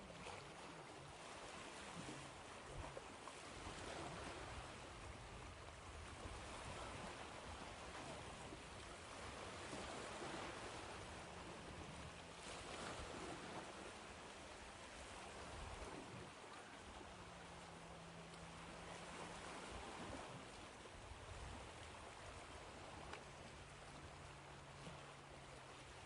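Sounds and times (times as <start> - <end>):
ocean waves washing: 0.0 - 26.0.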